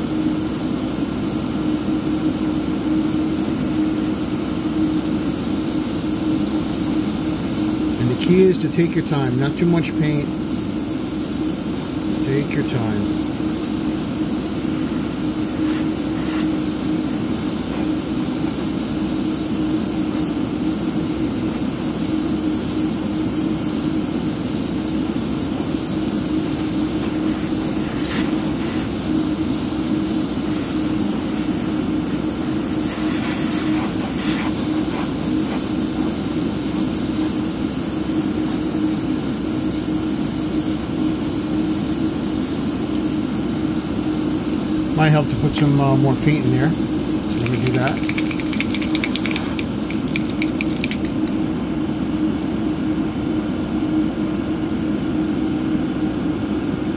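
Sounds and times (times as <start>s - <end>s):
airbrush hissing: 0.0s - 51.4s.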